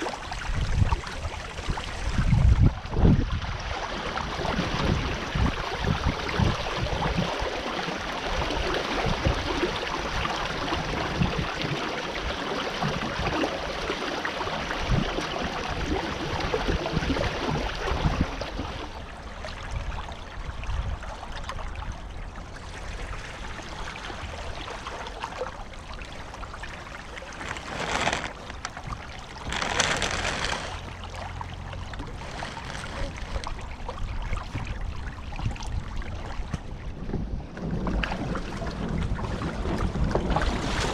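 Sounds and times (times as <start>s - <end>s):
wind rumbling on microphone: 0.0s - 13.7s, 14.6s - 40.9s
water gurgling along a hull: 0.0s - 40.9s.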